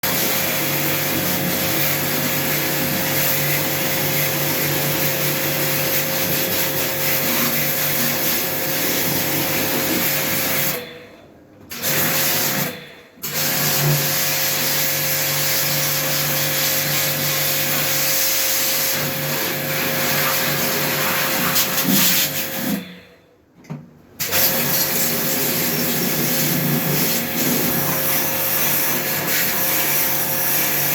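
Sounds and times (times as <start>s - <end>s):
high-pressure jet pump spraying: 0.0s - 10.9s, 11.7s - 22.8s, 24.2s - 30.9s.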